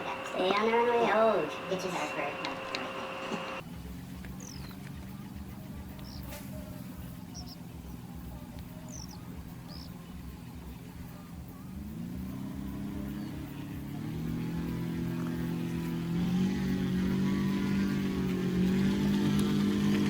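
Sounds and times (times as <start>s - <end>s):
aircraft engine speeding up: 0.0s - 20.0s.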